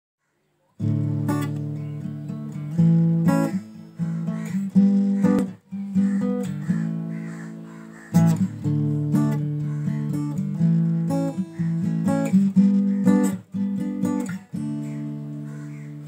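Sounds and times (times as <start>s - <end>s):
acoustic guitar strumming chords: 0.8s - 16.0s.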